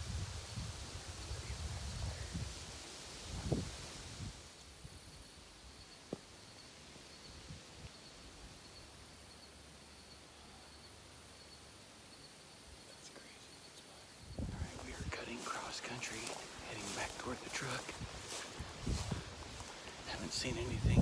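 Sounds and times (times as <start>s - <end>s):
high insect trill: 0.0s - 21.0s.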